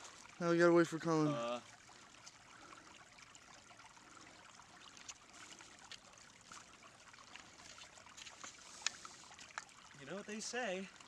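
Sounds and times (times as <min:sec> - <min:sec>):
creek trickling over rocks: 0:00.0 - 0:11.0.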